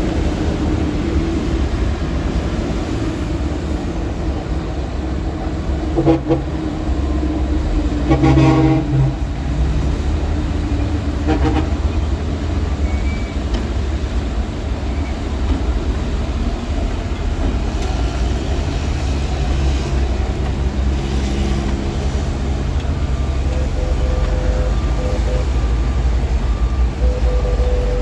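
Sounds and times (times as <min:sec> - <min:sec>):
heavy diesel machinery rumbling: 0:00.0 - 0:28.0.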